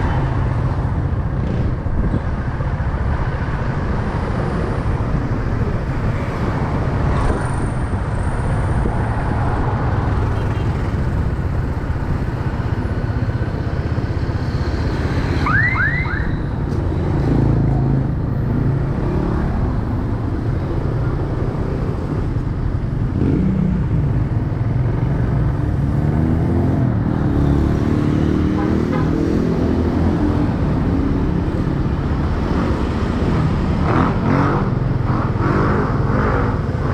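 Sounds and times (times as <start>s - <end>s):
wind and road noise: 0.0s - 36.9s.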